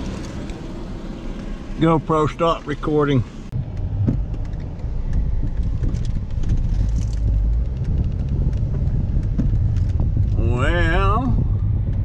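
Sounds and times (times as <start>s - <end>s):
car road noise on wet road: 0.0s - 12.0s.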